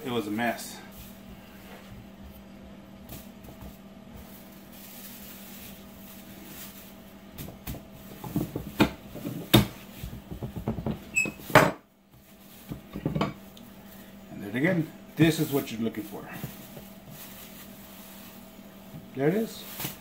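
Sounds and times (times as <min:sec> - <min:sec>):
plastic rustling: 0:00.0 - 0:11.5, 0:12.1 - 0:20.0.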